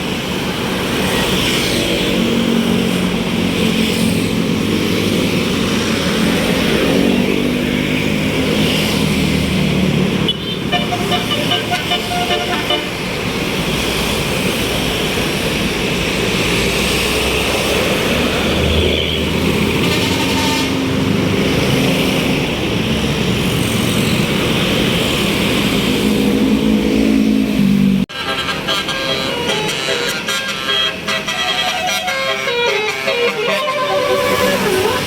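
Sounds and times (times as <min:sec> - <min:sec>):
bus engine running: 0:00.0 - 0:35.0
road traffic noise: 0:00.0 - 0:35.0.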